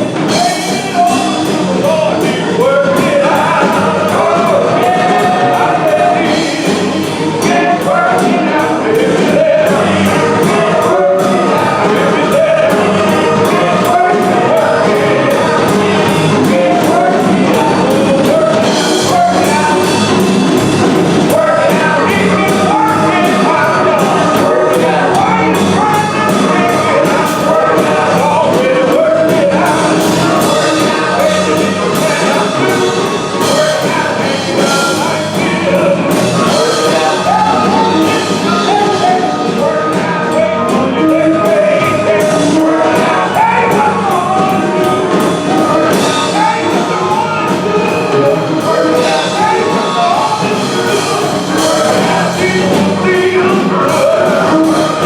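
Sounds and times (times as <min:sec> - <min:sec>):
instrumental accompaniment with beat: 0:00.0 - 0:55.0
voices singing church music: 0:00.0 - 0:55.0.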